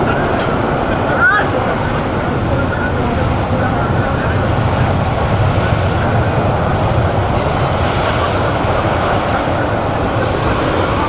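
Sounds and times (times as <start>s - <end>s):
aircraft engines running: 0.0s - 11.0s.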